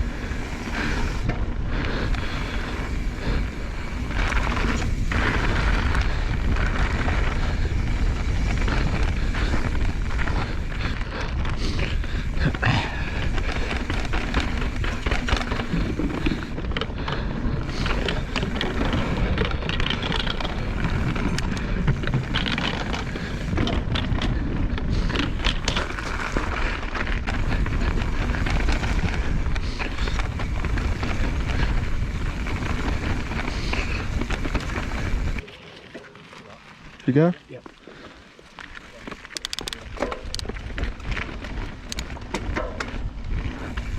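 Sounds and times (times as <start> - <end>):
wind rushing over microphone: 0.0 - 35.4
bike rattling and knocking: 0.0 - 36.4, 37.1 - 43.9
bike tyres rolling on dirt: 0.0 - 43.9.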